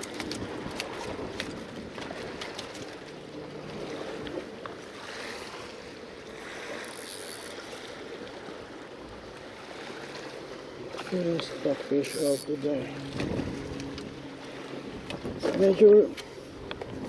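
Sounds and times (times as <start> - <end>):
sea water lapping against rocks: 0.0 - 17.0.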